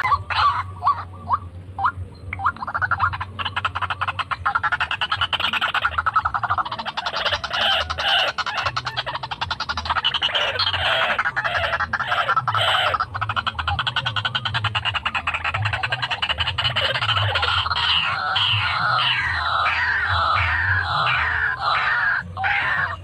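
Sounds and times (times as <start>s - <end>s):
bird croaking rattle: 0.0s - 23.0s.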